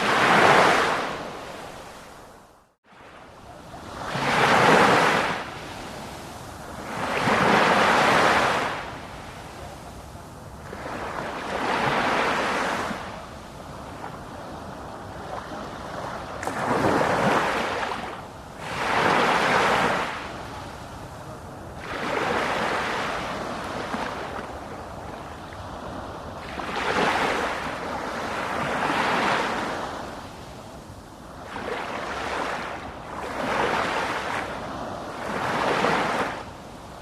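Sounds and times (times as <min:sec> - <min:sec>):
sea waves breaking: 0:00.0 - 0:30.6, 0:31.2 - 0:37.0.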